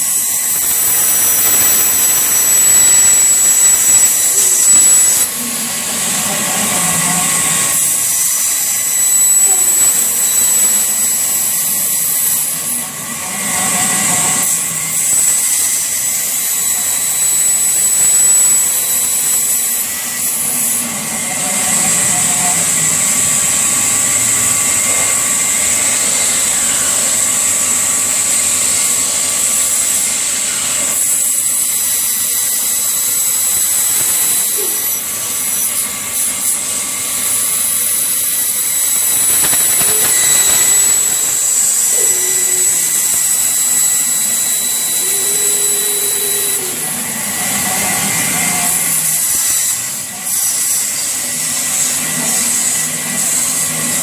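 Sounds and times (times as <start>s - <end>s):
band saw whining: 0.0s - 54.0s
saw cutting wood: 0.0s - 54.0s.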